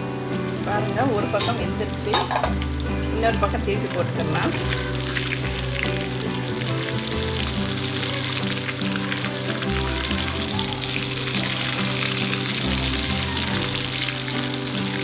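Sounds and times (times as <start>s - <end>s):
background music: 0.0s - 15.0s
fish sizzling in hot oil: 0.0s - 15.0s.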